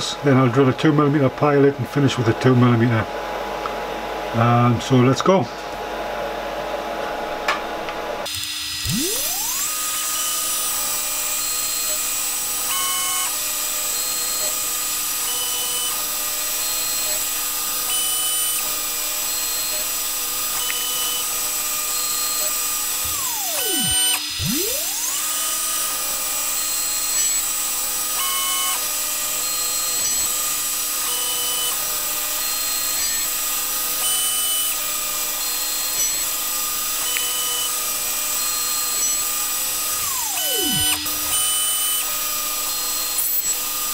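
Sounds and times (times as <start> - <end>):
milling machine spindle whine: 8.2 - 43.9.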